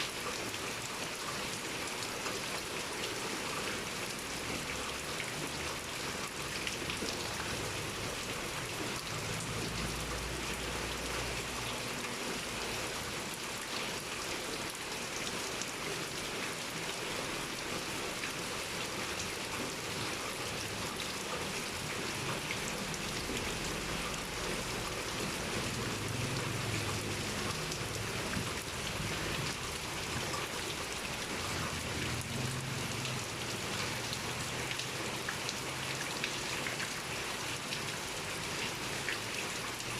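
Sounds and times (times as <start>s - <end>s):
pouring rain: 0.0s - 39.9s.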